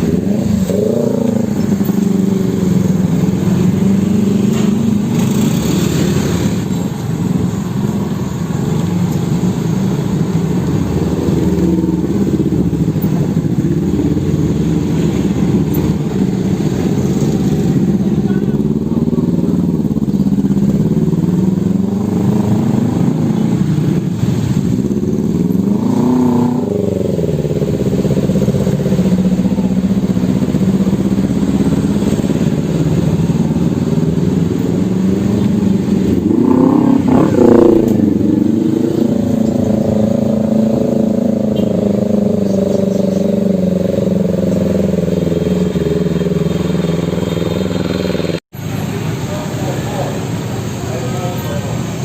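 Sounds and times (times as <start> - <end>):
road traffic: 0.0 - 52.0
vehicle passing close: 0.0 - 52.0.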